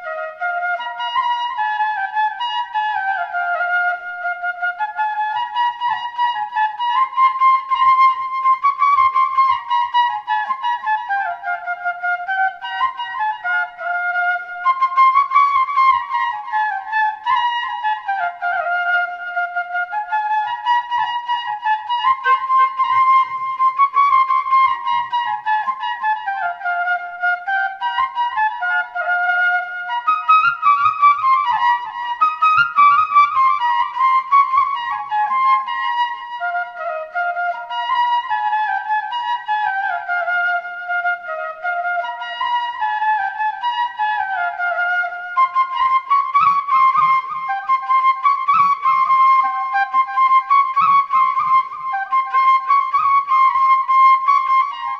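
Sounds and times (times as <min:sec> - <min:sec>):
flute melody: 0:00.0 - 0:54.9.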